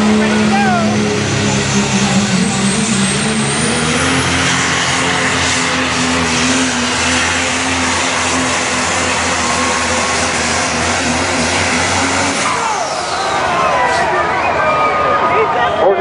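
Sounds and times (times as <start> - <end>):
diesel engine at full throttle: 0.0 - 16.0.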